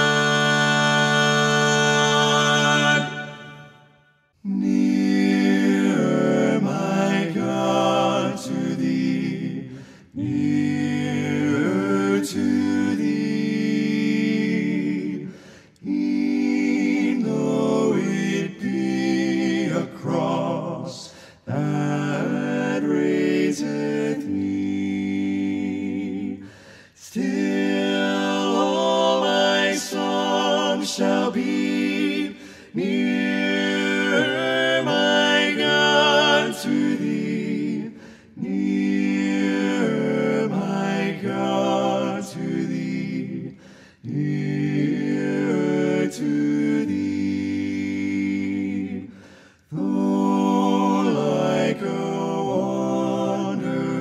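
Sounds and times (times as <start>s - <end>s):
voices singing in harmony: 0.0s - 54.0s.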